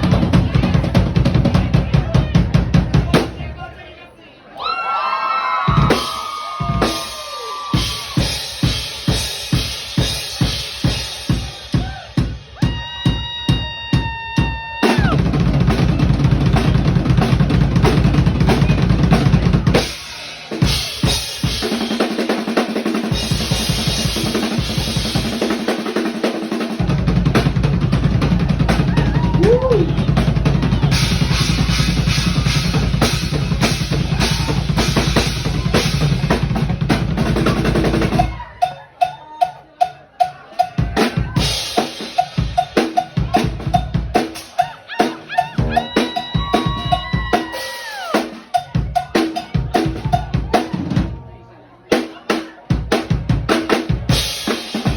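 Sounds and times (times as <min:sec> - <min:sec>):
drum solo: 0:00.0 - 0:03.6, 0:05.7 - 0:51.2, 0:51.9 - 0:54.9.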